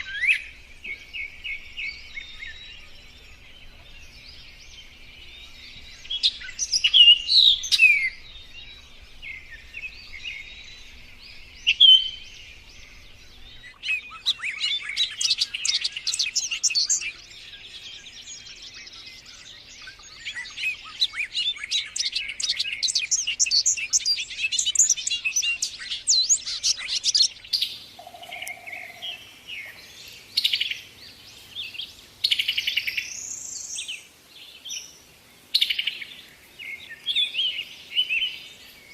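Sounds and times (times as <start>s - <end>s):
birds whistling and chirping: 0.0s - 38.9s.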